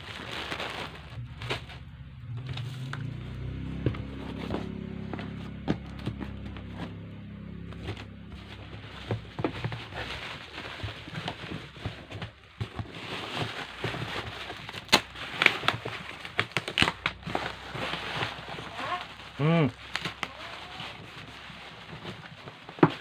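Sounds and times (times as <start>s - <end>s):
packaging crackling and rustling: 0.0s - 23.0s.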